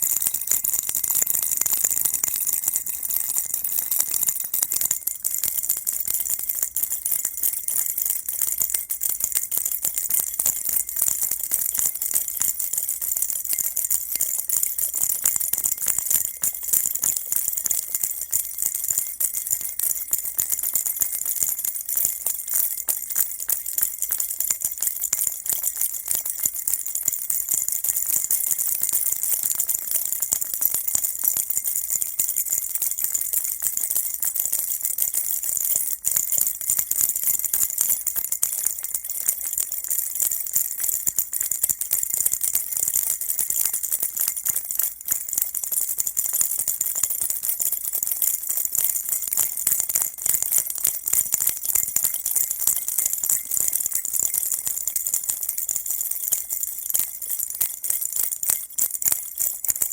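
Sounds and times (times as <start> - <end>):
baby's rattle shaken: 0.0 - 59.9.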